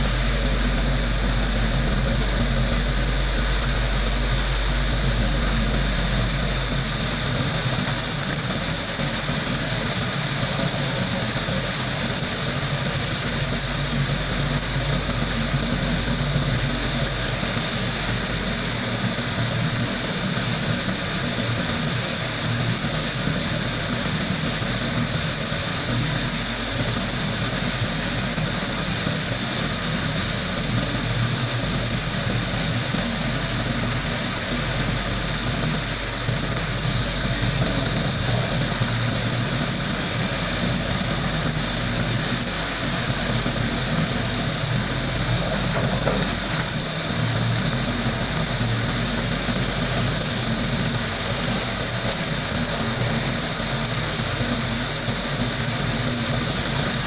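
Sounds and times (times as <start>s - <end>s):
low hum: 0.0s - 57.0s
sandblaster hissing: 0.0s - 57.0s.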